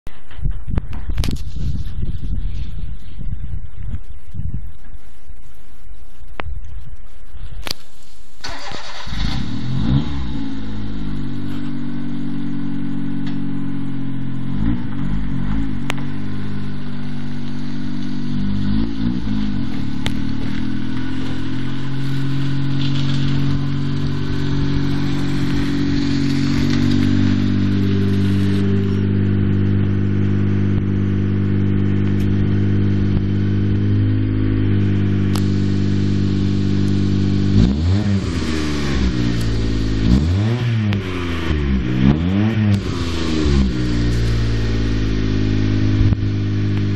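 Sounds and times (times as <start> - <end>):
engine revving: 8.4 - 46.9
small car engine running: 8.4 - 46.9.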